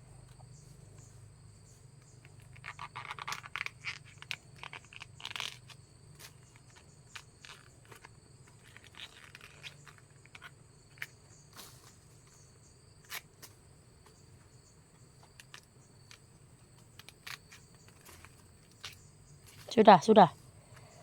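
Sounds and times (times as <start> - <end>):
insect chirring: 0.0 - 21.0.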